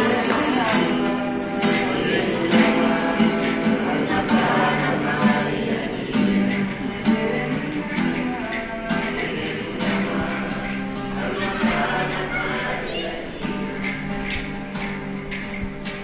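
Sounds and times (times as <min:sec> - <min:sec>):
group of people singing: 0:00.0 - 0:15.6
strummed acoustic guitar: 0:00.0 - 0:16.0.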